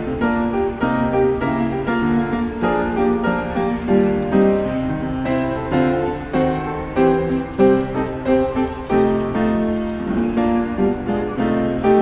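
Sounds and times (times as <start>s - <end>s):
piano playing: 0.0s - 12.0s.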